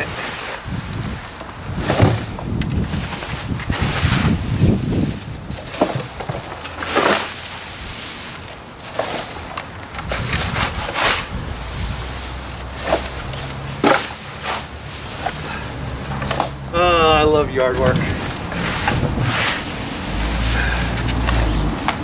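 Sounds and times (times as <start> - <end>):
shovel scraping debris: 0.0 - 16.8, 17.7 - 22.0.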